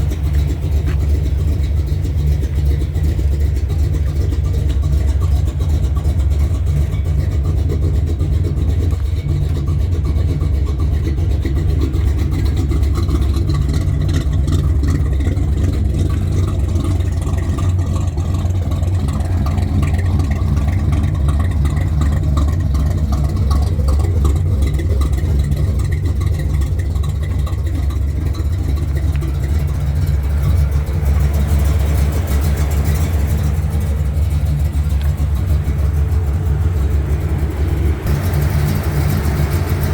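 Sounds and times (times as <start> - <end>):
pickup truck engine running: 0.0 - 39.9.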